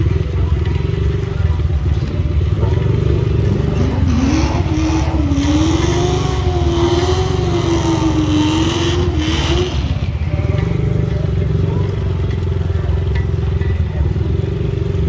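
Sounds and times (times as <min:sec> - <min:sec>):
engine choppy idle: 0:00.0 - 0:15.0.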